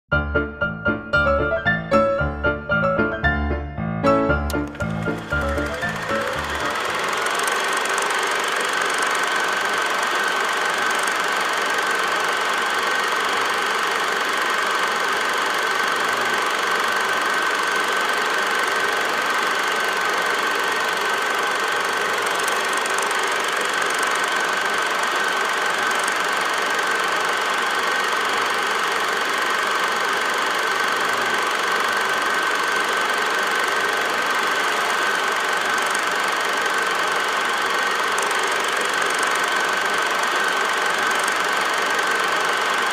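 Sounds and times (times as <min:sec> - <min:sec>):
film projector whirring clatter: 0:04.5 - 0:42.9.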